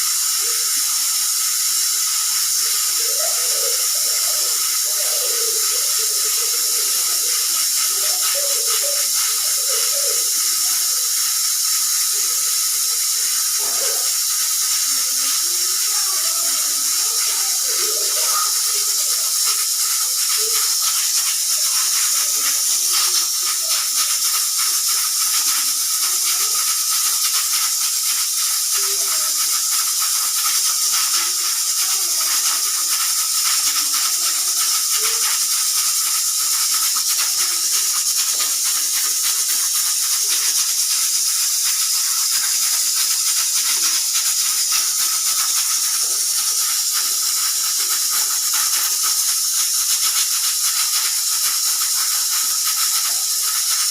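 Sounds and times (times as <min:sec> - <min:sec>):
pressure cooker hissing steam: 0:00.0 - 0:53.9.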